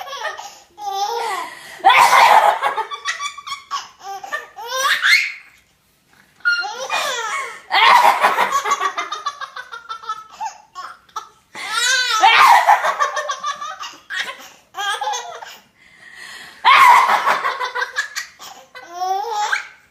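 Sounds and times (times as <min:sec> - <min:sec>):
baby laughing: 0:00.0 - 0:05.4, 0:06.4 - 0:15.6, 0:16.7 - 0:19.8.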